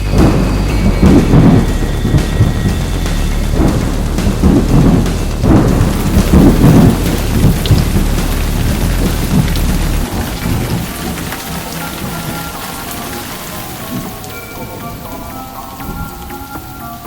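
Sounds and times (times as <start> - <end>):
rolling thunder: 0.0 - 15.2
heavy rain: 0.0 - 17.0.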